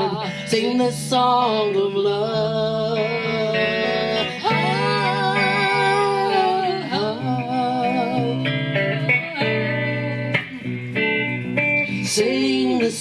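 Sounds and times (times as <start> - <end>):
guitar-accompanied song: 0.0 - 13.0.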